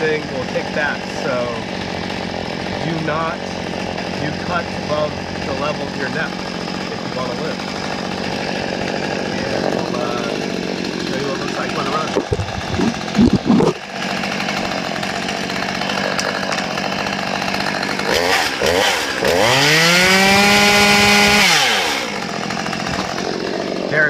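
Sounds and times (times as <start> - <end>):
chainsaw idling and revving: 0.0 - 24.0.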